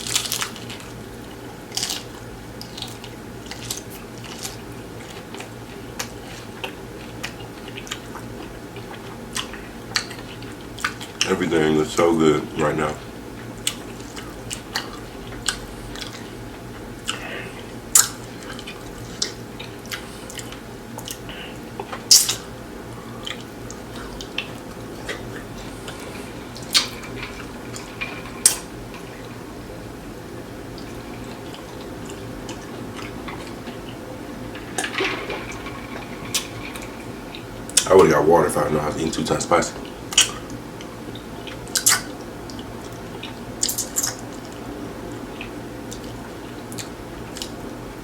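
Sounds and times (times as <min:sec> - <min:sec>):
person chewing food: 0:00.0 - 0:11.2, 0:13.6 - 0:37.9, 0:39.8 - 0:47.7
low background hum: 0:00.0 - 0:48.0.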